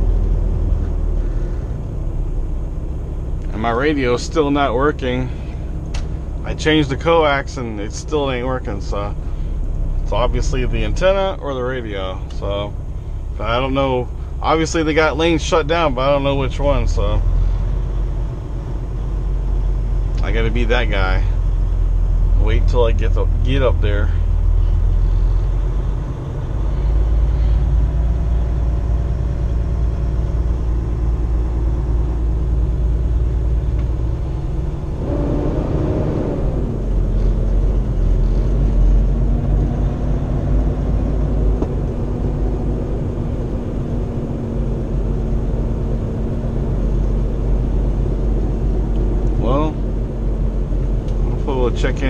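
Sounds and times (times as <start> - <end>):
engine hum: 0.0 - 52.0
truck engine and road rumble: 0.0 - 52.0.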